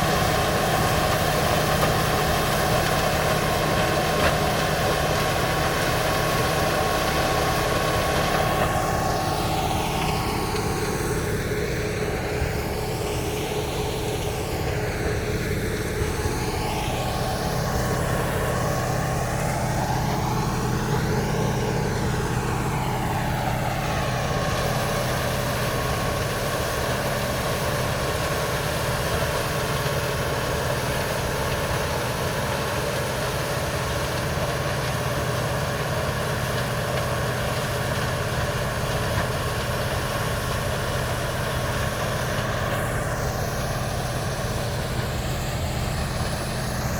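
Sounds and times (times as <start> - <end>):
heavy machinery engine running: 0.0 - 46.9.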